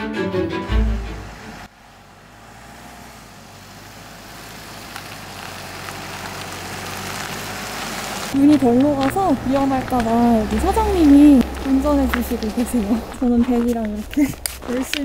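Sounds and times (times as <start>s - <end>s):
truck engine humming: 0.0s - 15.0s
tyres hissing on wet road: 0.7s - 15.0s.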